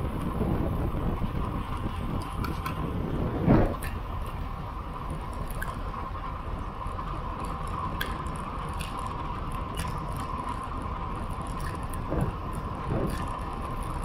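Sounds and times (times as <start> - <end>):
bicycle tyre rumble on asphalt: 0.0 - 14.0
constant hum: 0.0 - 14.0
wind: 0.0 - 14.0.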